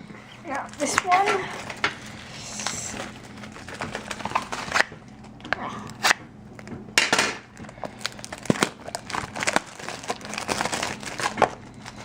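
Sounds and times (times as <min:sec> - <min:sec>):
plastic wrapping crinkling: 0:00.4 - 0:05.4, 0:06.0 - 0:12.0.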